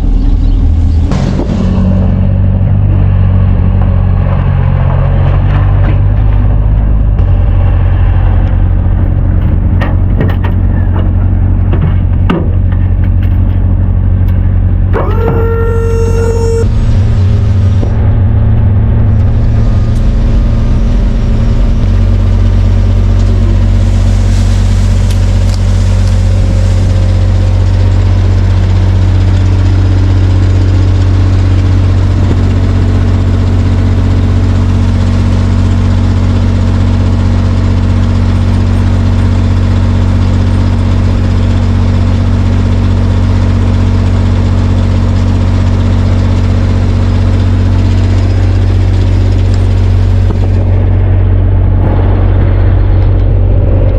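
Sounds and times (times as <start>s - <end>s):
vehicle engine droning: 0.0s - 53.9s.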